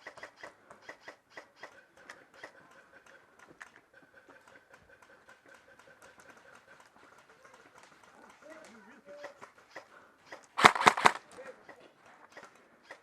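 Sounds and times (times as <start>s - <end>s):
airsoft guns clicking: 0.0s - 3.9s, 5.3s - 13.0s.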